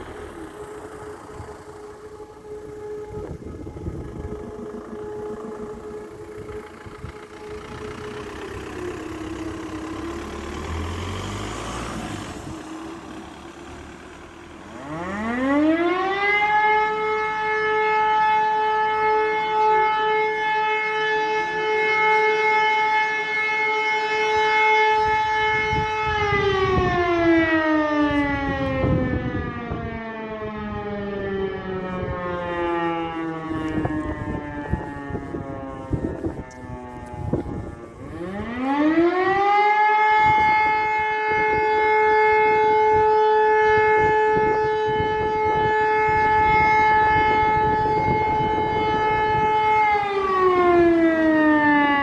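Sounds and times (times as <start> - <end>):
wailing alarm siren: 0.0 - 52.0.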